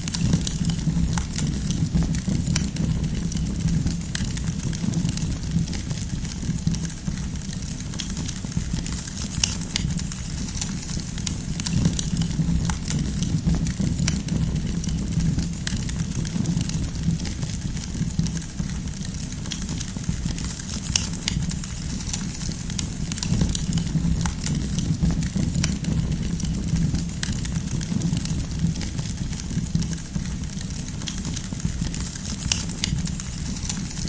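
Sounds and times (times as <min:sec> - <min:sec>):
campfire flames rumbling: 0:00.0 - 0:34.0
firewood crackling and popping: 0:00.0 - 0:34.0.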